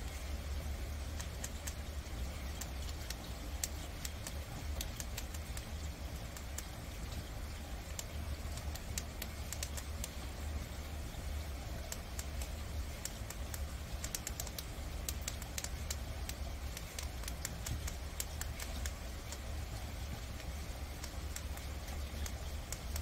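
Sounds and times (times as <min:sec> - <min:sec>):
steady low hum: 0:00.0 - 0:23.0
crunchy nibbling clicks: 0:00.9 - 0:10.6, 0:11.6 - 0:23.0.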